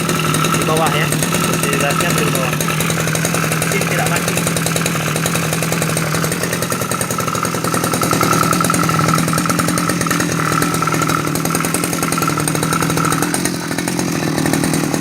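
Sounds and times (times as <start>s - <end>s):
brush cutter engine idling: 0.0s - 15.0s.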